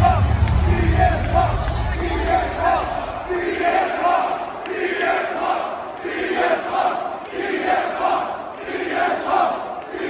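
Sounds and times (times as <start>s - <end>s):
arena crowd chanting: 0.0s - 10.0s.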